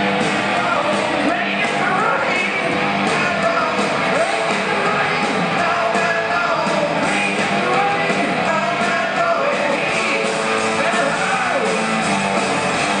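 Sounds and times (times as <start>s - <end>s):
live rock band playing: 0.0s - 13.0s
person singing: 0.6s - 11.9s.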